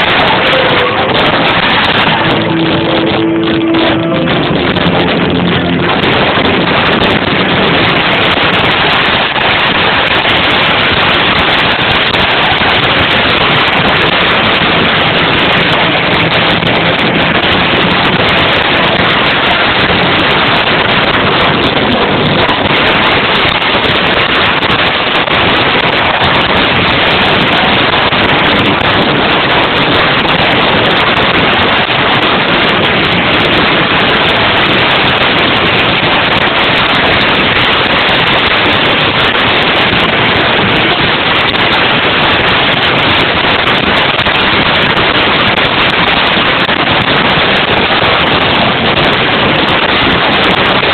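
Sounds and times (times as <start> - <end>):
distorted live rock band music: 0.0 - 50.9.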